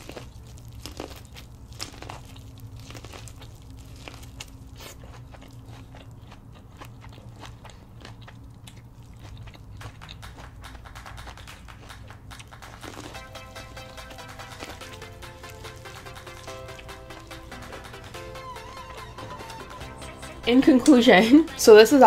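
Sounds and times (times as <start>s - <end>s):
person chewing with crunches: 0.0s - 20.5s.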